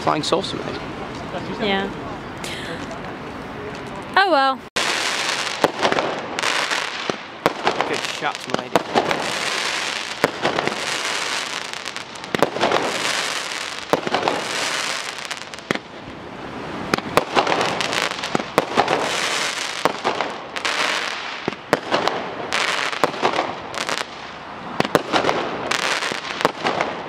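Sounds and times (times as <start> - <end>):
fireworks bursting with sharp bangs: 4.8 - 27.0.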